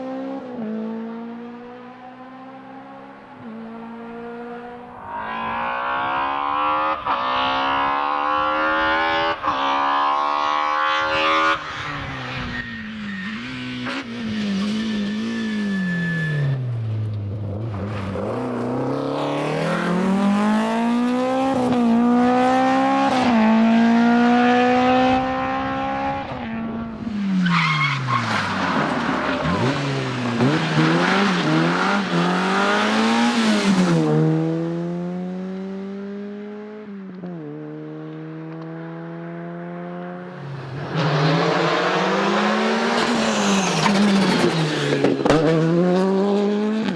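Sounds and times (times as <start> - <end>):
rally car engine revving: 0.0 - 16.3, 16.9 - 46.9.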